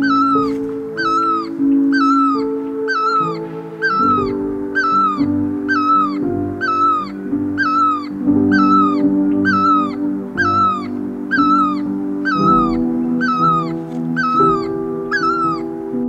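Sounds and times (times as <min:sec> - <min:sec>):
bird calling: 0:00.0 - 0:15.8
background music of sustained chords: 0:00.0 - 0:16.0.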